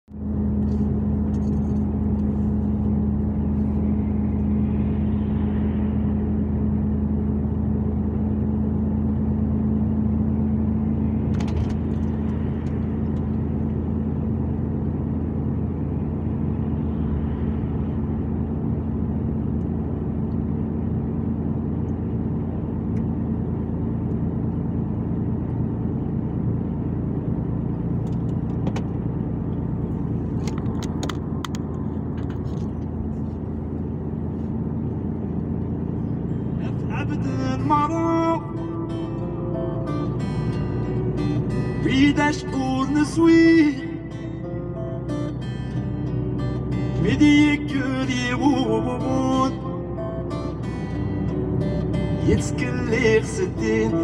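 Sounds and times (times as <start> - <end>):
truck engine and road drone: 0.0 - 54.0.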